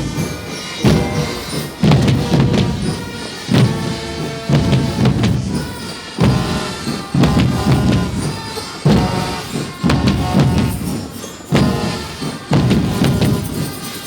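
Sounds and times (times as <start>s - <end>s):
music with heavy drum hits: 0.0s - 14.0s.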